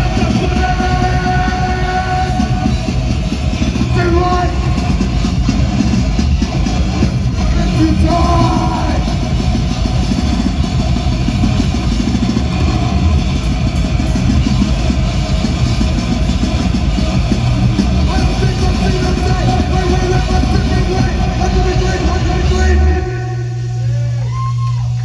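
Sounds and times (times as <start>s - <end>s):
live rock band: 0.0s - 25.0s.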